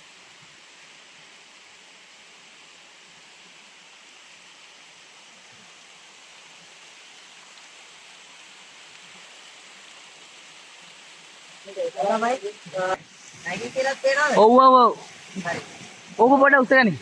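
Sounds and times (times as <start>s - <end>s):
waterfall stream rushing: 0.0s - 17.0s.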